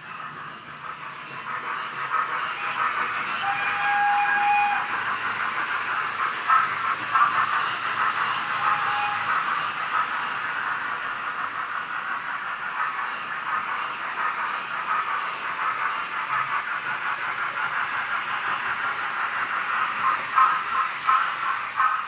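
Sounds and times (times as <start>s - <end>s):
model train rattling with hiss: 0.0s - 22.0s.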